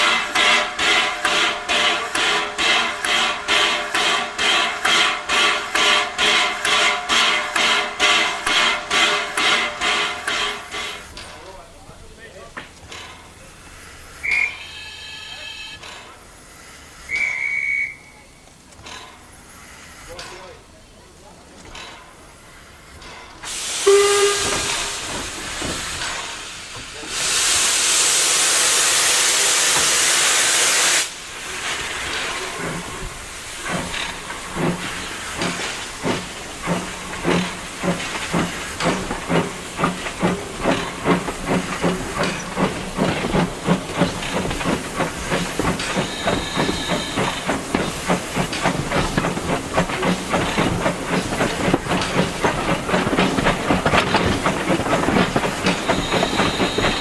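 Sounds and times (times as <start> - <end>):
loud steam hiss: 0.0 - 11.6, 13.3 - 18.4, 19.2 - 21.5, 22.2 - 57.0
steam locomotive exhaust beats: 0.0 - 57.0.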